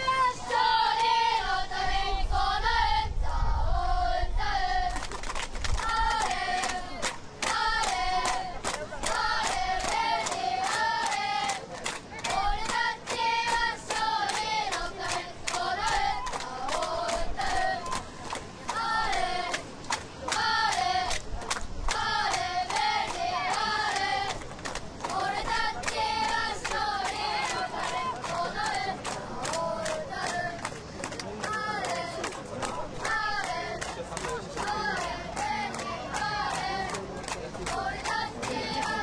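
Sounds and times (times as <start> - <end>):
children chanting: 0.0 - 3.1, 5.8 - 18.0, 18.7 - 21.2, 21.9 - 24.4, 25.0 - 30.6, 33.0 - 39.0
rhythmic hand-clapping: 0.6 - 1.5, 4.8 - 39.0.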